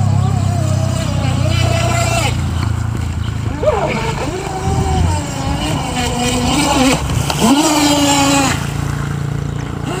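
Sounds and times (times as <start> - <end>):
electric boat motor whining: 0.0 - 10.0.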